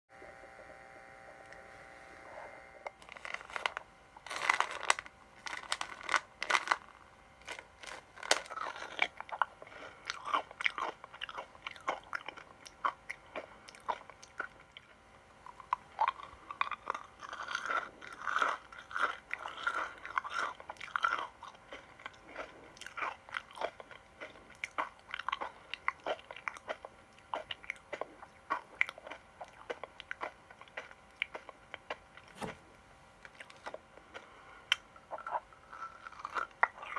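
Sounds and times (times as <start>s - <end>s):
crunchy sweet being chewed: 2.3s - 32.5s, 33.2s - 36.9s.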